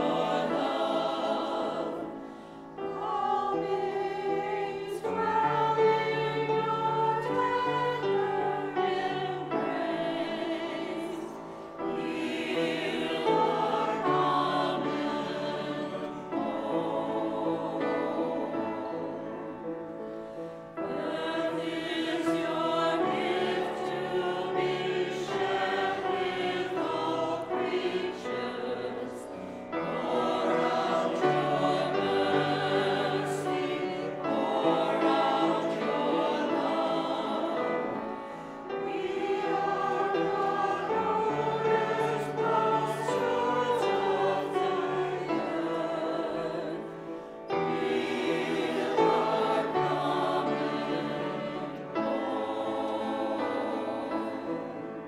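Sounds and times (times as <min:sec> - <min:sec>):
choir singing a hymn: 0:00.0 - 0:55.0
piano accompaniment: 0:00.0 - 0:55.0.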